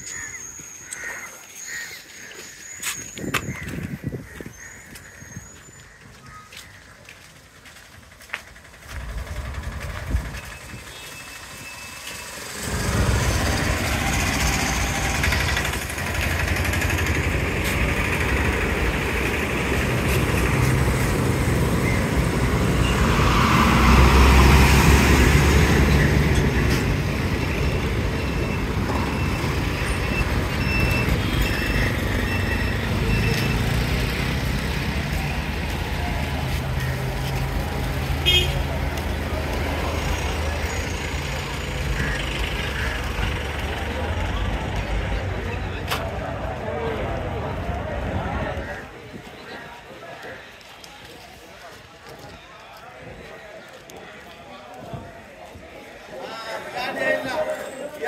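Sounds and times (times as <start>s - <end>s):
vehicle engines passing: 6.6s - 58.0s.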